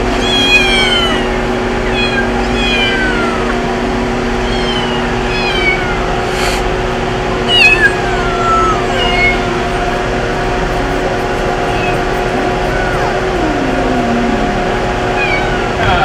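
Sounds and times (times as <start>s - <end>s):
cats meowing: 0.0s - 16.0s
steady droning hum: 0.0s - 16.0s.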